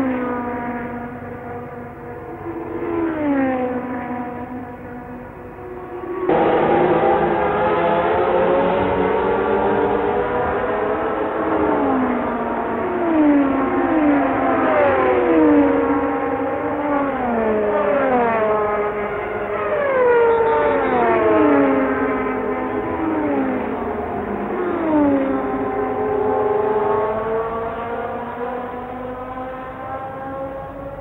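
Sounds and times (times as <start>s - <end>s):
racing cars passing at high speed: 0.0s - 31.0s.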